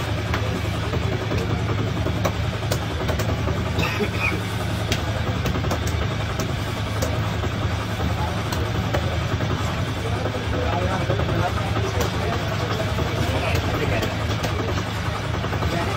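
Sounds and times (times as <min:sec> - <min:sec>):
low engine-like hum: 0:00.0 - 0:15.9.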